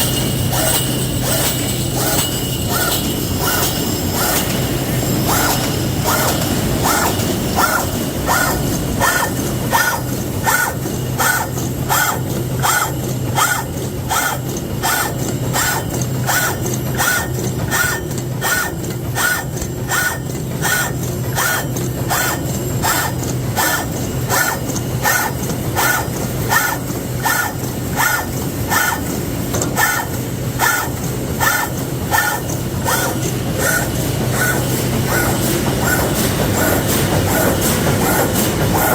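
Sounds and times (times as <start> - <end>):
welding machine clacking: 0.0 - 38.9.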